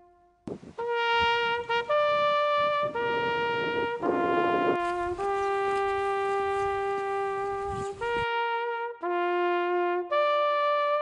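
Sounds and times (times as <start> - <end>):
solo brass slow melody: 0.0 - 11.0.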